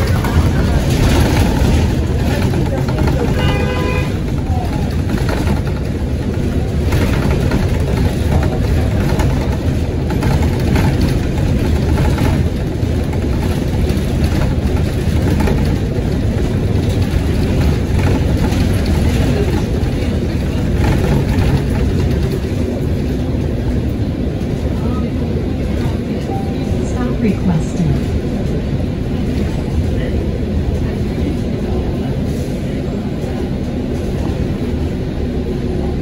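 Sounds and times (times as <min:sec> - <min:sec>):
bus engine running: 0:00.0 - 0:36.0
road noise: 0:00.0 - 0:36.0.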